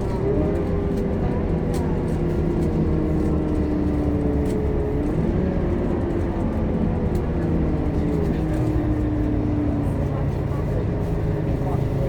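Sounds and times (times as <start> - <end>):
bus engine droning and whining: 0.0 - 12.0.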